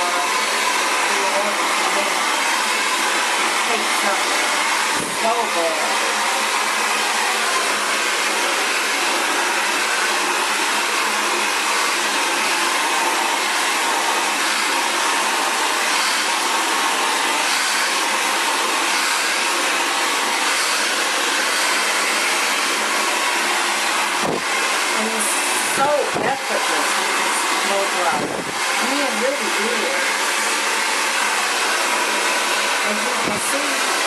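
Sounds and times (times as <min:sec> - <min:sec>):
hair dryer blowing: 0:00.0 - 0:34.0.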